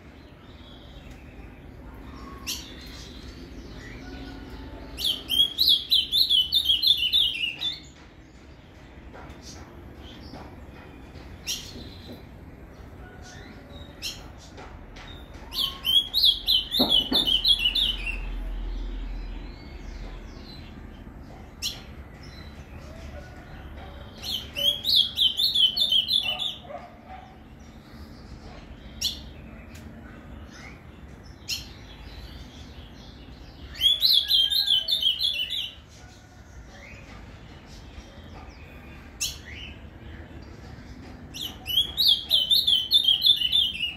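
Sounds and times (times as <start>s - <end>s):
bird singing: 0.0s - 8.5s, 9.1s - 35.8s, 36.6s - 43.9s.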